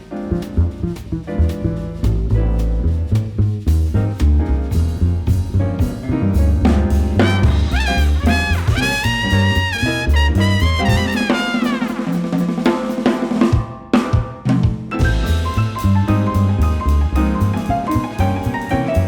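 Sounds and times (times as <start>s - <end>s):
bass: 0.0s - 13.6s, 14.5s - 19.0s
drum kit: 0.0s - 19.0s.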